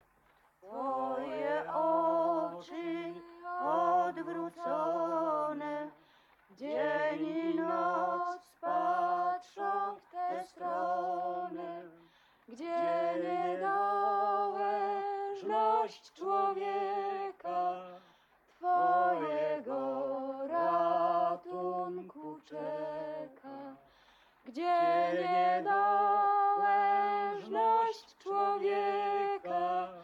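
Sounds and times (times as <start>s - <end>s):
woman singing a hymn: 0.7s - 6.0s, 6.6s - 17.7s, 18.6s - 23.8s, 24.5s - 30.0s.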